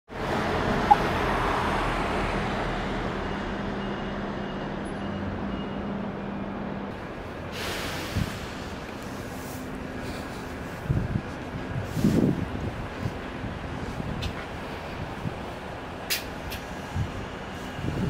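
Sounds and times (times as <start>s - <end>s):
street traffic: 0.1s - 18.0s.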